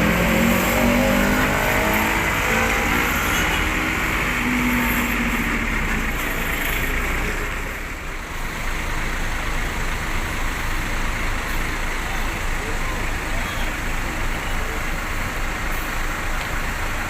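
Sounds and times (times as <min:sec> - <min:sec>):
large vehicle engine humming: 0:00.0 - 0:17.0
road noise: 0:00.0 - 0:17.0.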